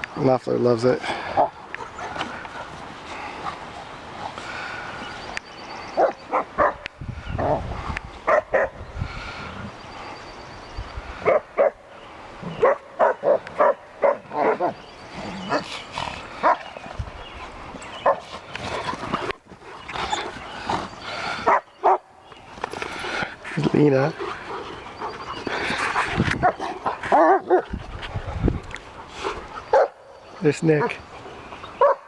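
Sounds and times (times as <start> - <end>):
puppies barking and yipping: 4.3 - 9.4, 11.2 - 32.0.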